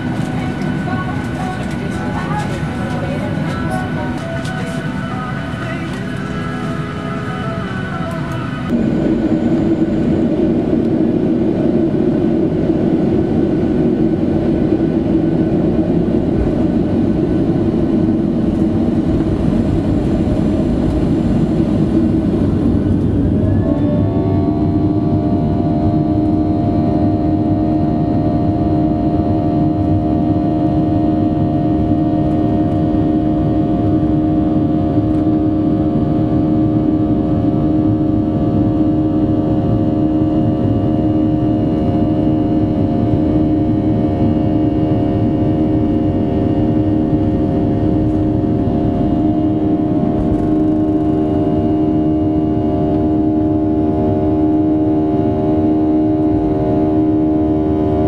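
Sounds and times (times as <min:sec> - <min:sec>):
engine whining tones: 0:00.0 - 0:58.0
jet engines roaring: 0:00.0 - 0:58.0.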